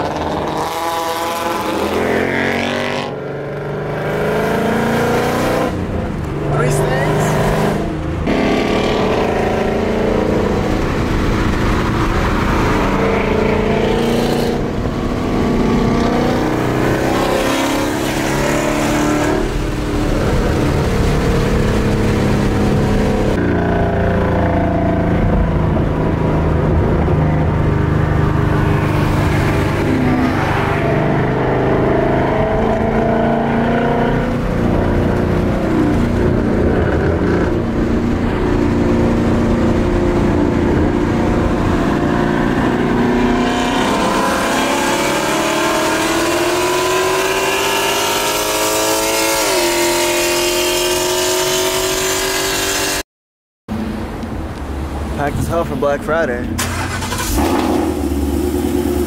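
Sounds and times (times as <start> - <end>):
car engine and exhaust: 0.0 - 53.0, 53.7 - 59.0
road noise: 0.0 - 53.0, 53.7 - 59.0.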